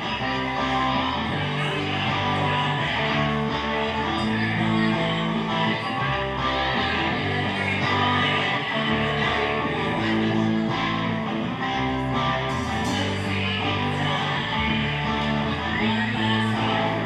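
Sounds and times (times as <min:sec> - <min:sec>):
live band playing amplified music: 0:00.0 - 0:17.0
strummed guitars: 0:00.0 - 0:17.0.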